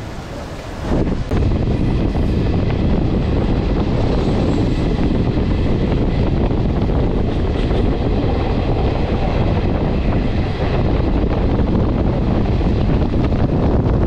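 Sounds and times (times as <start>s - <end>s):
train wheels rumbling on rails: 0.0s - 14.0s
wind rush: 0.0s - 14.0s.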